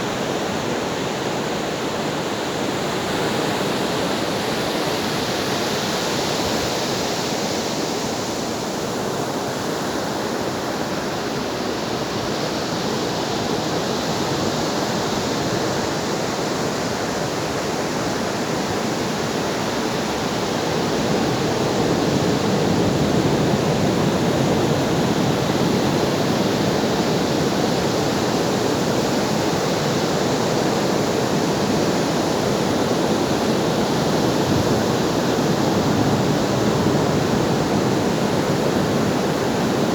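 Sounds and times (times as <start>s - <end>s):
ocean waves breaking on shore: 2.4s - 39.9s.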